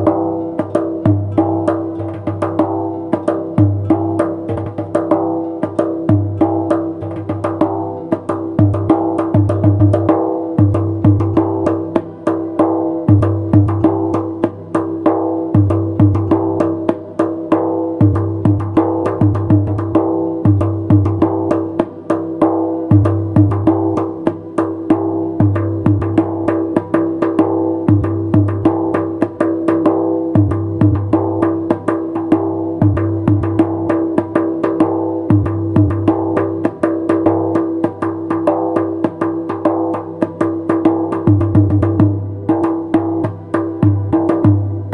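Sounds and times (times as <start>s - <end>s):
darbuka drumming: 0.0s - 44.9s.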